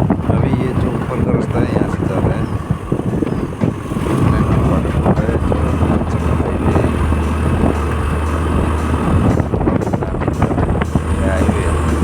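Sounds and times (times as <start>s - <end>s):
rough rumbling ride noise: 0.0s - 12.0s
scooter engine drone: 0.0s - 12.0s.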